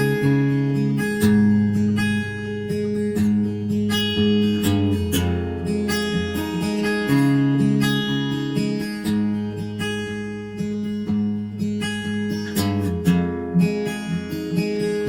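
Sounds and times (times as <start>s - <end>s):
strummed acoustic guitar music: 0.0s - 15.0s.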